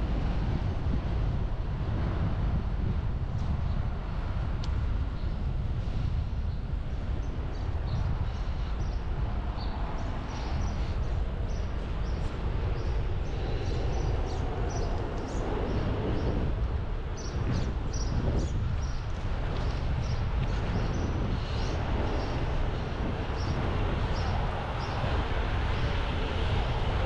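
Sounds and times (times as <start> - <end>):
wind rumble: 0.0 - 27.0.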